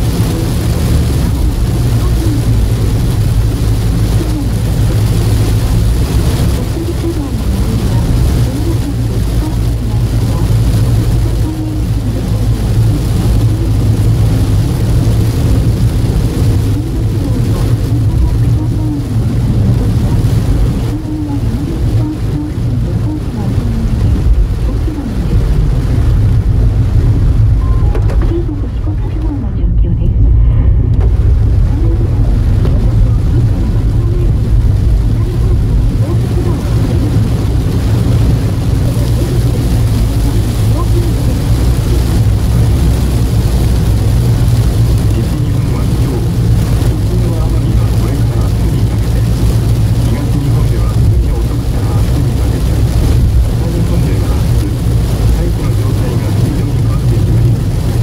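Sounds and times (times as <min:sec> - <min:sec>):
hiss of rain and spray: 0:00.0 - 0:29.5, 0:30.3 - 0:58.0
engine and tyres on wet road: 0:00.0 - 0:58.0.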